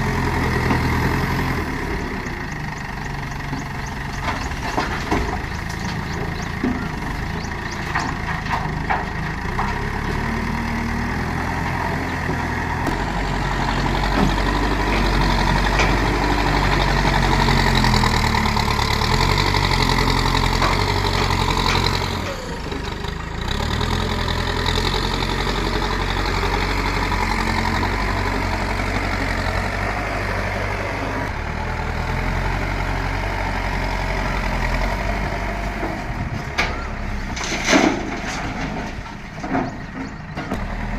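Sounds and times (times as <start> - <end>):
heavy machine diesel engine: 0.0 - 40.9.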